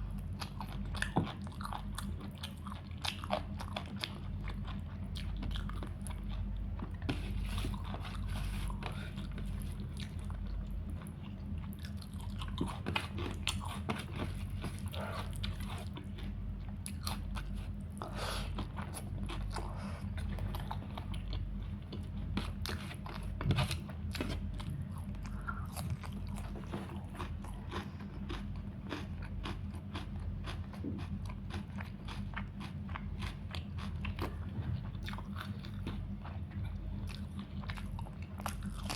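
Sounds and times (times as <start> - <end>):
person chewing crunchy food: 0.0 - 38.9
steady low hum: 0.0 - 38.9.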